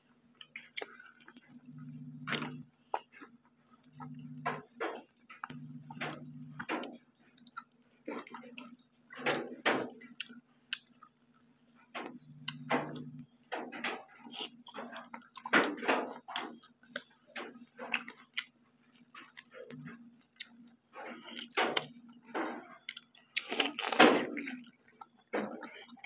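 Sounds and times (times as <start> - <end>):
faint steady hum: 0.0 - 26.0
chewing and lip-smacking: 0.3 - 26.0.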